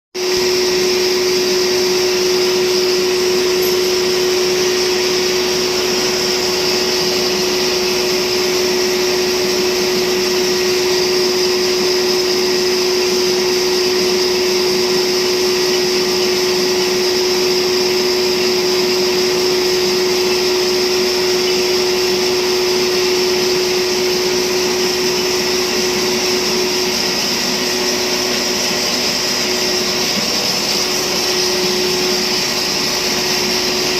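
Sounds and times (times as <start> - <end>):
lathe whining: 0.2 - 33.9.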